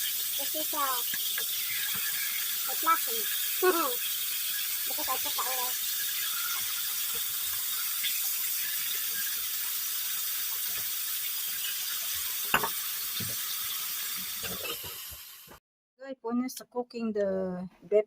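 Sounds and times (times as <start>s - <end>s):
steak sizzling in a frying pan: 0.0s - 15.6s.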